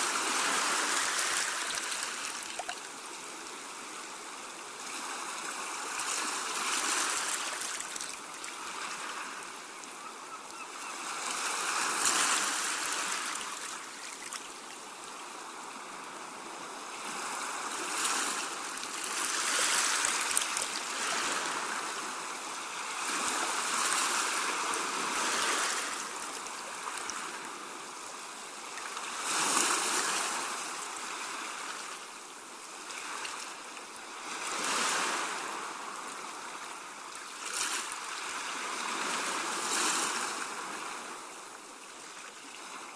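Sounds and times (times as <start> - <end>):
waves washing onto shore: 0.0 - 42.9.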